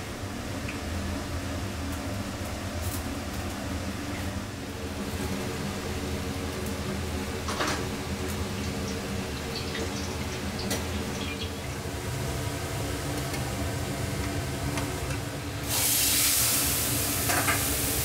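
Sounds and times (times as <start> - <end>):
gas range and ventilation hum: 0.0 - 18.0.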